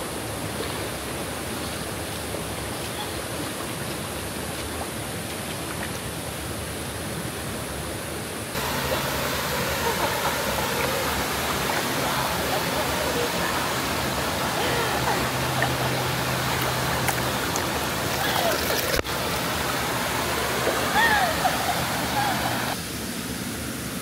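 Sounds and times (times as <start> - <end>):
waterfall and river rushing: 0.0 - 24.0.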